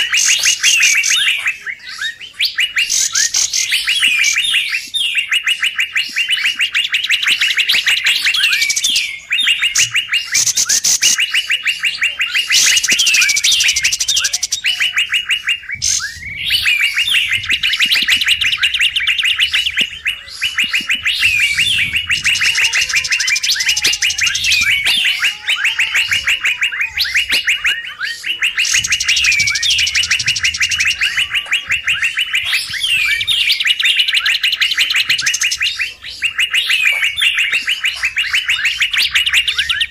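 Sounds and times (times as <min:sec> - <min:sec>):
bird chattering calls: 0:00.0 - 0:39.9
sharp high bird notes: 0:00.0 - 0:39.9.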